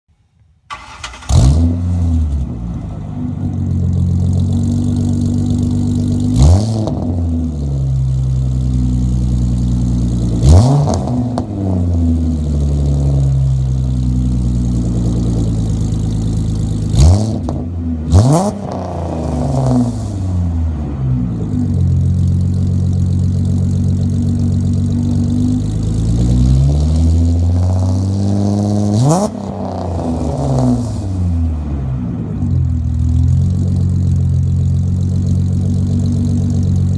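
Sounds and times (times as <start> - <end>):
car engine starting and idling: 0.4 - 36.9.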